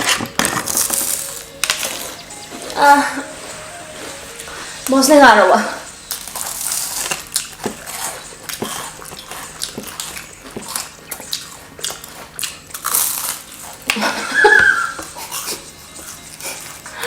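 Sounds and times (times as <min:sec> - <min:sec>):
person chewing food: 0:00.0 - 0:04.9, 0:05.8 - 0:17.0.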